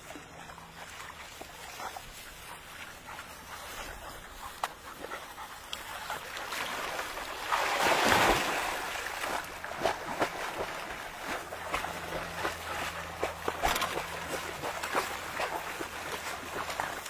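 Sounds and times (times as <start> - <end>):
puppies splashing in water: 0.0 - 17.0.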